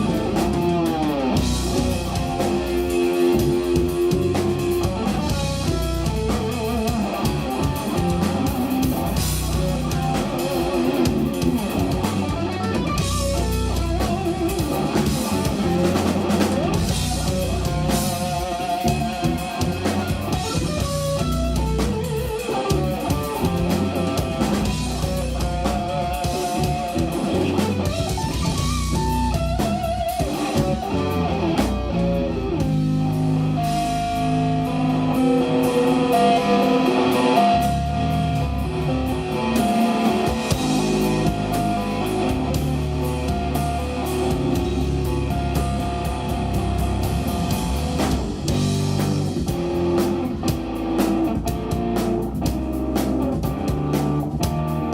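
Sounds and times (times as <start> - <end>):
bass guitar: 0.0 - 54.9
drum kit: 0.0 - 54.9
electric guitar lead: 0.0 - 54.9.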